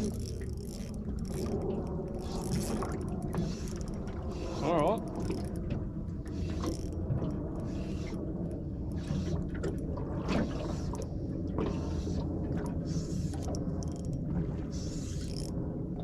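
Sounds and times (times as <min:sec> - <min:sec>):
boat motor humming: 0:00.0 - 0:15.3
water splashing against hull: 0:00.0 - 0:16.0.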